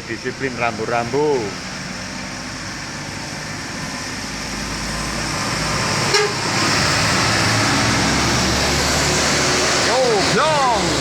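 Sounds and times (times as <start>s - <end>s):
vehicle engine approaching: 0.0s - 11.0s.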